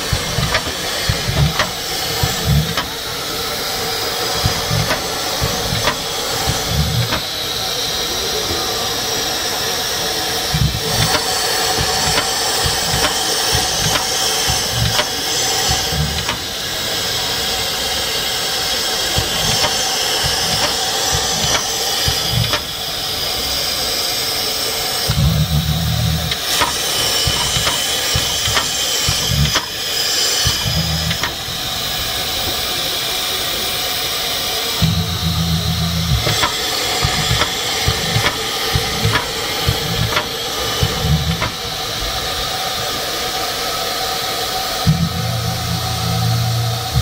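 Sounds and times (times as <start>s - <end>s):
steam hissing from locomotive: 0.0s - 47.0s.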